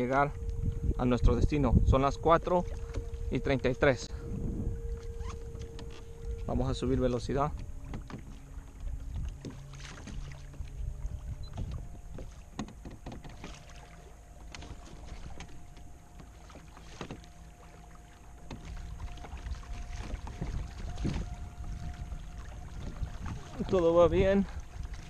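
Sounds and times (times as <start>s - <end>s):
faint electric motor whine: 0.0s - 25.0s
water sloshing along hull: 0.0s - 25.0s.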